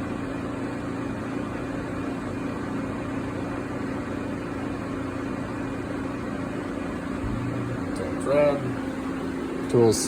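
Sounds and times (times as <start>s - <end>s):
lathe running with hum: 0.0s - 10.0s.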